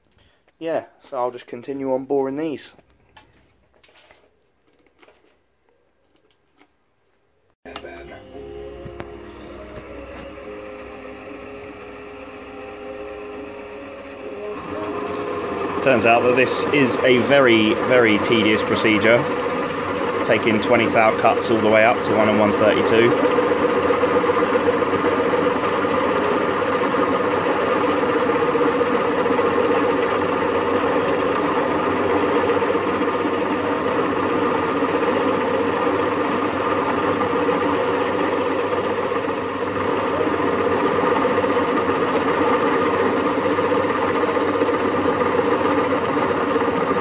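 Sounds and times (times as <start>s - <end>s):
milling machine motor hum: 7.8s - 47.0s.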